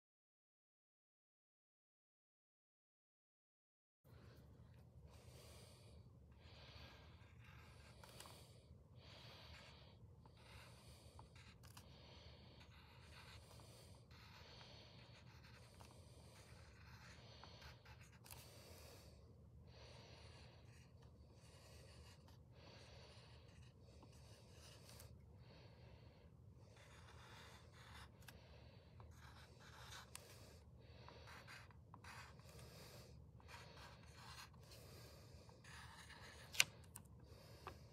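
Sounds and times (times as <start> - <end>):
pencil scratching on paper: 4.2 - 37.9.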